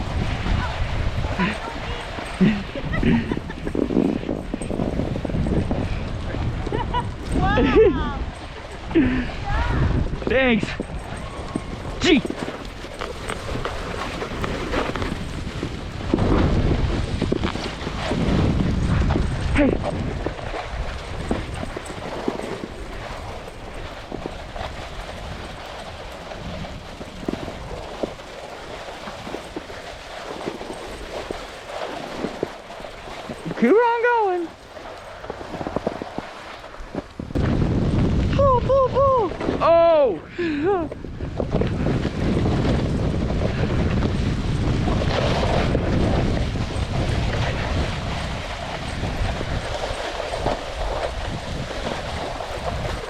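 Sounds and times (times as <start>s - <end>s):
snowboard scraping over snow: 0.0s - 10.2s, 10.9s - 53.0s
dogs' running feet thudding: 0.0s - 38.3s, 40.5s - 53.0s
wind rush on microphone: 0.0s - 53.0s.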